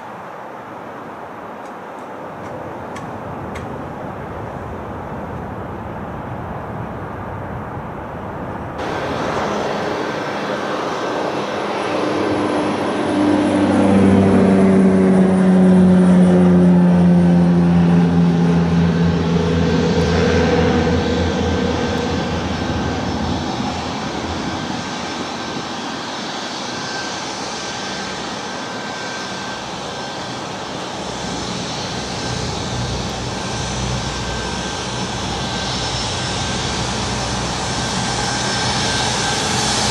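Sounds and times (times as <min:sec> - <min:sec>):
jet engines rumbling with whine: 0:00.0 - 0:39.9.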